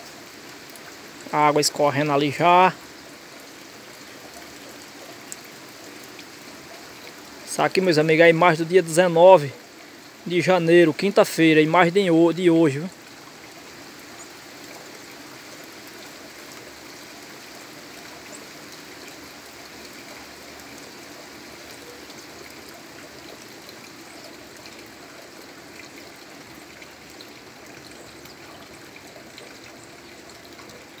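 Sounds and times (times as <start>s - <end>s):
runoff water running: 0.0s - 31.0s
steady rain falling: 0.0s - 31.0s.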